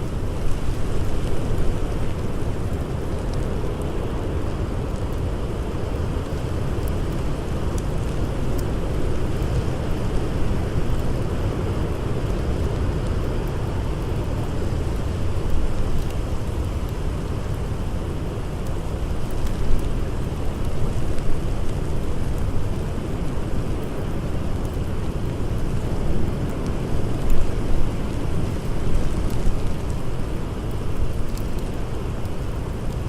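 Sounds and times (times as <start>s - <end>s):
blizzard wind blowing in gusts: 0.0s - 33.0s
faint campfire crackles: 0.0s - 33.0s.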